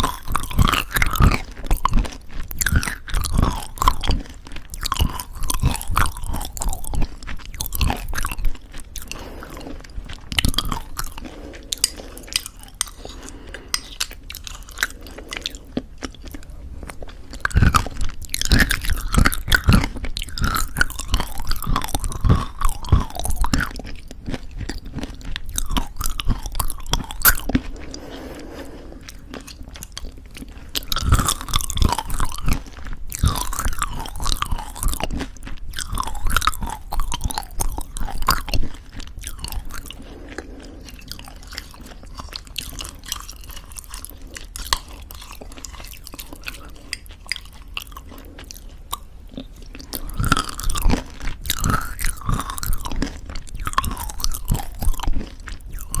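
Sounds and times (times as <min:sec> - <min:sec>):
chewing crunchy granola: 0:00.0 - 0:56.0
wet mouth sounds: 0:00.0 - 0:56.0.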